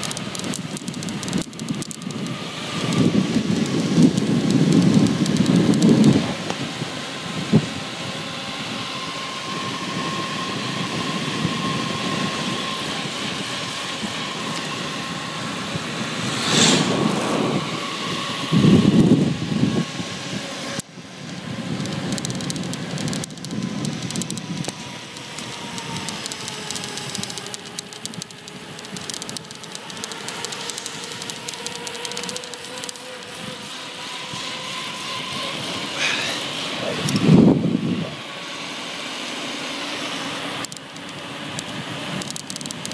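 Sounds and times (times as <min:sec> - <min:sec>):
wind rushing over microphone: 0:00.0 - 0:32.4, 0:33.2 - 0:38.3
wheels rolling on asphalt: 0:00.0 - 0:42.9.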